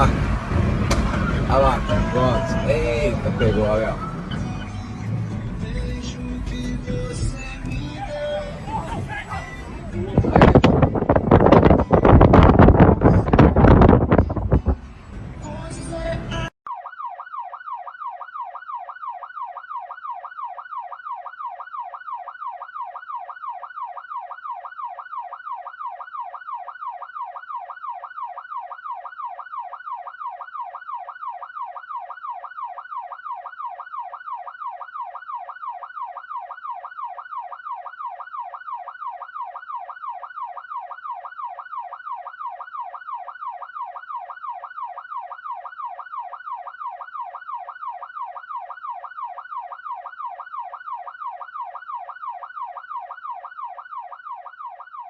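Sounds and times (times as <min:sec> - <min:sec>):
electronic yelp siren: 0:01.2 - 0:05.0, 0:07.1 - 0:14.5, 0:16.6 - 0:55.0.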